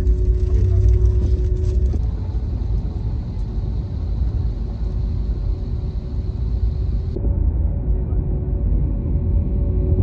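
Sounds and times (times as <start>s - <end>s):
faint steady whine: 0.0s - 10.0s
low cabin rumble: 0.0s - 10.0s.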